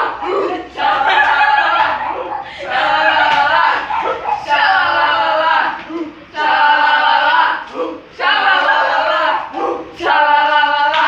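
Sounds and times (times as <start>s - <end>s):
young women chanting together: 0.0s - 11.0s.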